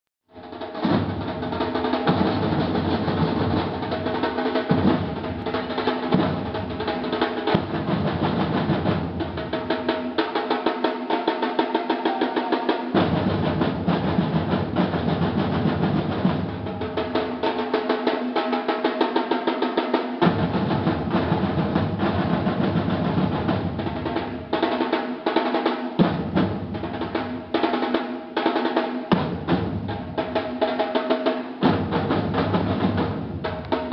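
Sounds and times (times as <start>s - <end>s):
samba drum ensemble: 0.3s - 33.9s.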